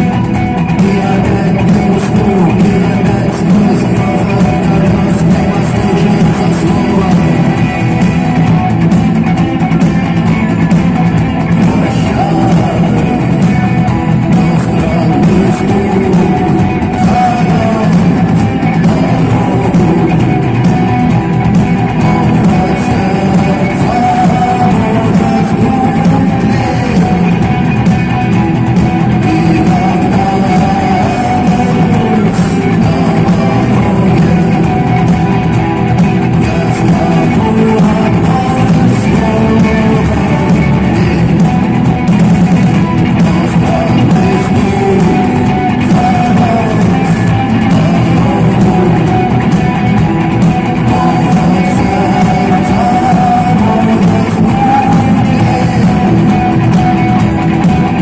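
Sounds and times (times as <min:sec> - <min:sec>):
drums: 0:00.0 - 0:58.0
electric guitar: 0:00.0 - 0:58.0
person singing: 0:00.0 - 0:58.0.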